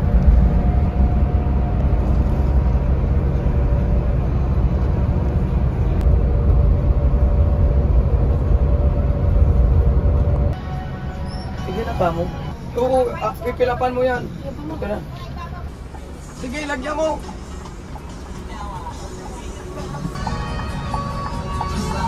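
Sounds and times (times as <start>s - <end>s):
coach engine and road rumble: 0.0s - 22.0s.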